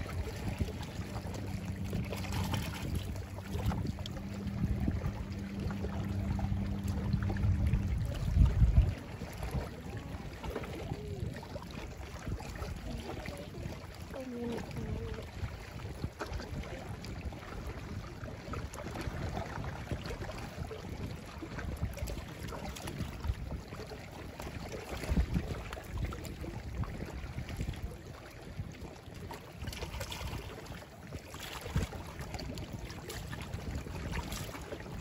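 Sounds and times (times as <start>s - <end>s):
motorboat engine humming: 0.0s - 35.0s
water lapping at rocks: 0.0s - 35.0s.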